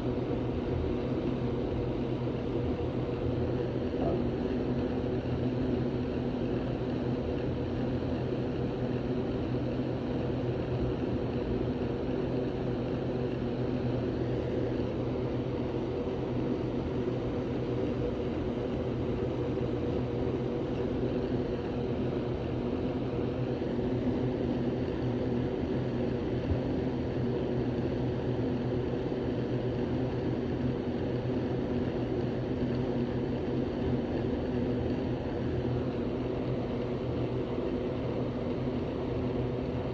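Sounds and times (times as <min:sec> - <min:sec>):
machine droning: 0:00.0 - 0:39.9.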